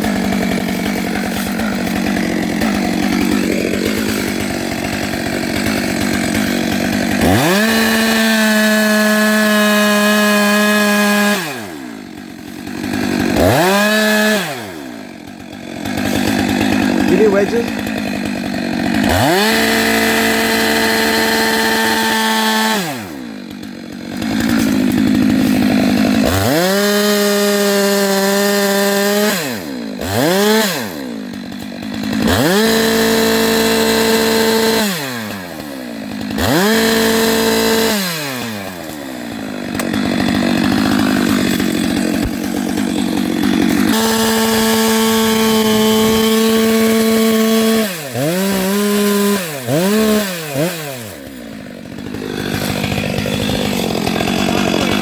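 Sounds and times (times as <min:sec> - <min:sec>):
chainsaw cutting into tree: 0:00.0 - 0:55.0.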